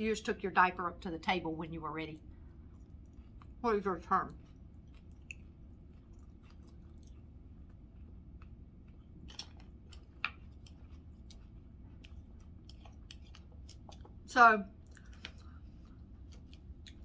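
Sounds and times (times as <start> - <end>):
low steady hum: 0.0 - 17.0
person chewing: 2.3 - 17.0.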